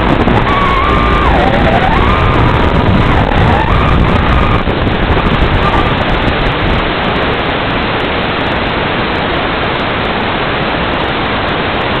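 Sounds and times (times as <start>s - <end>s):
loud static hiss: 0.0s - 12.0s.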